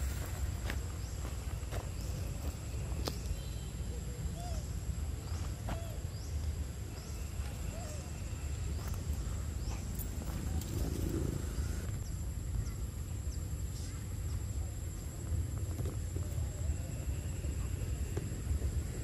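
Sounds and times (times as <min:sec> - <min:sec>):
constant low rumble: 0:00.0 - 0:19.0
high insect drone: 0:00.0 - 0:19.0.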